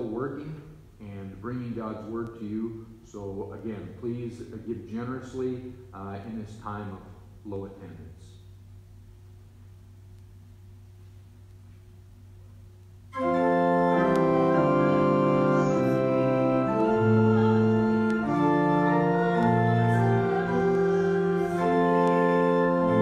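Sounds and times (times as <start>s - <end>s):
organ playing slow chords: 0.0s - 23.0s.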